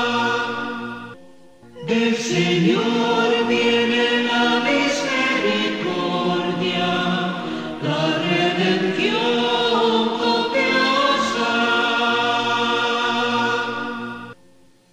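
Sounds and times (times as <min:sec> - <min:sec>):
choir singing held chords: 0:00.0 - 0:01.2, 0:01.8 - 0:14.4.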